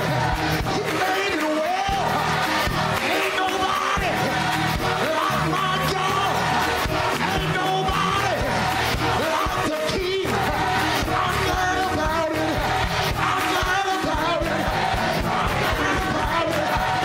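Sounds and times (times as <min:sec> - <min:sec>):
band playing: 0:00.0 - 0:17.0
gospel choir singing: 0:00.0 - 0:17.0.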